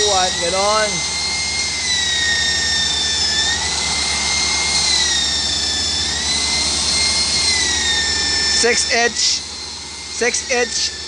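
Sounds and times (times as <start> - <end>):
electric drill whining: 0.0 - 11.0.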